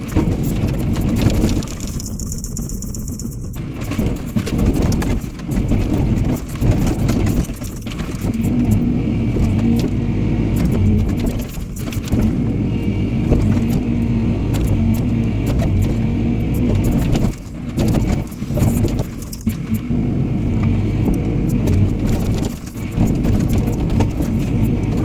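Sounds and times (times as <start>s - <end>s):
excavator engine running: 0.0s - 25.0s.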